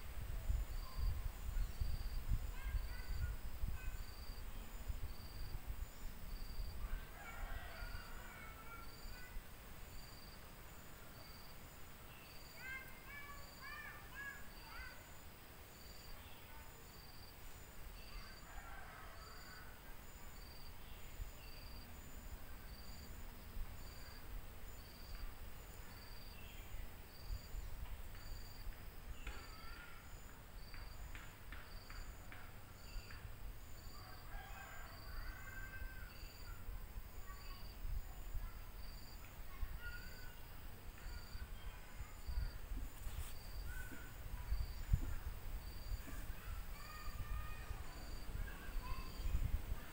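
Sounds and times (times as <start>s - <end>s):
cricket chirping: 0.4s - 49.9s.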